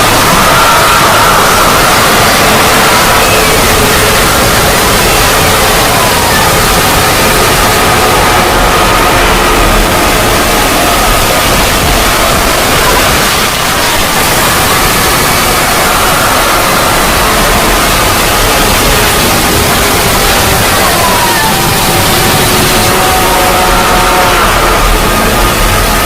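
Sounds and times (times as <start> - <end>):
loud static-like noise: 0.0 - 26.0.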